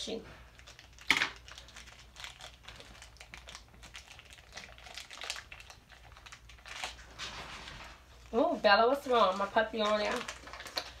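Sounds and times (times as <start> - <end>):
plastic wrapper crinkling: 0.5 - 11.0.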